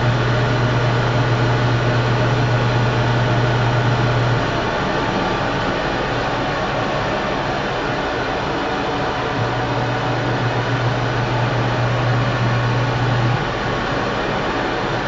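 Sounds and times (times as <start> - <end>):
low motor hum: 0.0 - 15.0
washing machine churning: 0.0 - 15.0.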